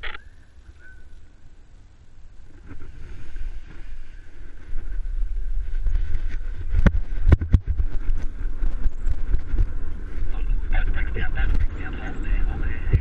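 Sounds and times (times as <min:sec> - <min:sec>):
wind buffeting microphone: 0:02.4 - 0:13.0.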